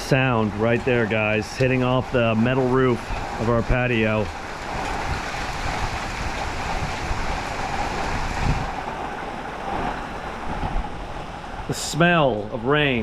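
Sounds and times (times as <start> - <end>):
rain on a metal roof: 0.0 - 13.0.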